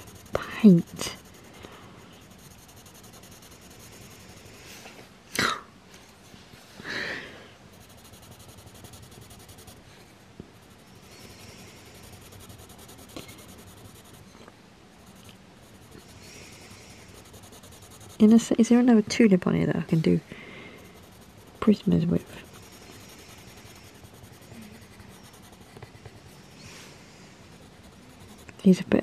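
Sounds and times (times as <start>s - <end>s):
coloured pencil scratching on paper: 0.0s - 4.8s, 7.7s - 14.4s, 15.0s - 29.0s.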